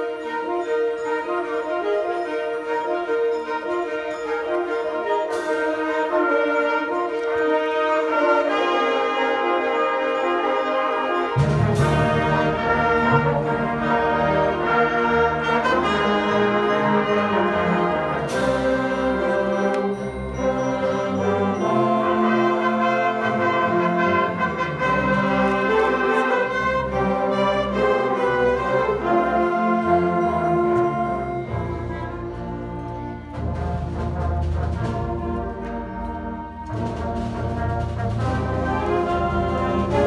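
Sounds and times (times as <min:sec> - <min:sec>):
concert band playing: 0:00.0 - 0:40.0
low brass: 0:00.0 - 0:40.0.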